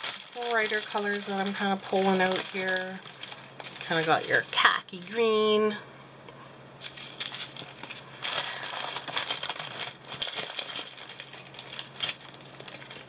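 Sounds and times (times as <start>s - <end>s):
plastic packaging crinkling: 0.0s - 5.4s, 6.8s - 13.0s.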